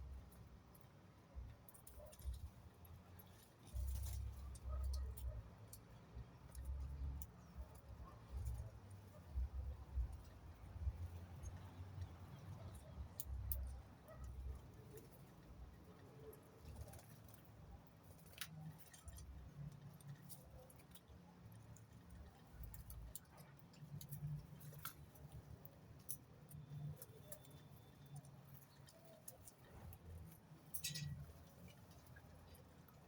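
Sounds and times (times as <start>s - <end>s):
faint clicks and ticks: 0.0s - 33.0s.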